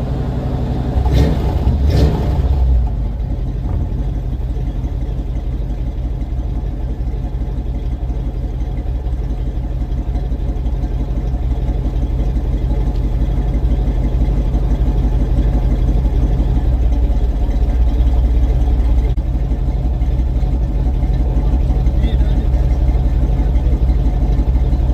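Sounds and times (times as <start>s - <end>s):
pickup truck engine running: 0.0s - 24.9s.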